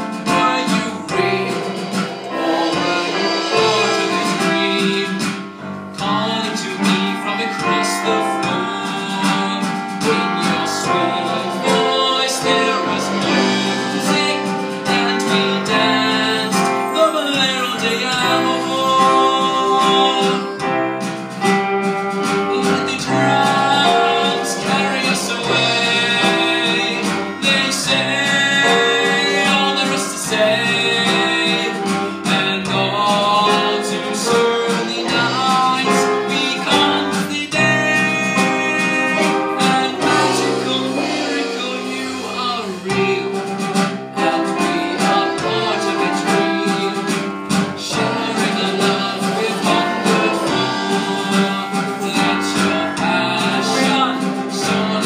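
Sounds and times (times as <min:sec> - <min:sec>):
live band playing dance music: 0:00.0 - 0:55.0.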